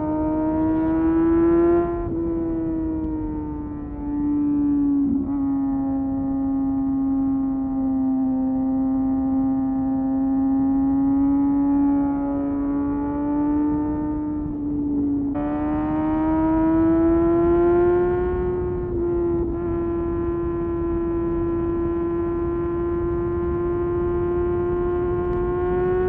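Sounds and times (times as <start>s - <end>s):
motorcycle engine at high revs: 0.0s - 26.0s.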